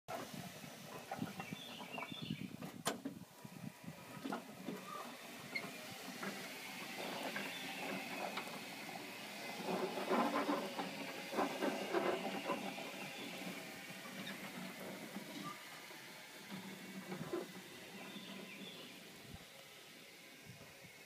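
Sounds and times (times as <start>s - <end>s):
lawn mower motor whine: 0.1s - 21.0s.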